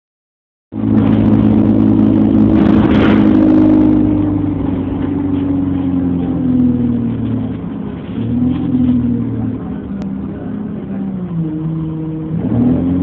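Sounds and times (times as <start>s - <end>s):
bus engine drone: 0.7s - 13.0s.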